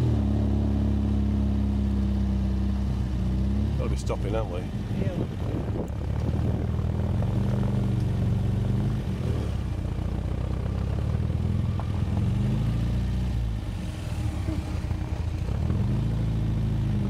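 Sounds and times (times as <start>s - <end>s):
sports car engine running: 0.0s - 17.0s.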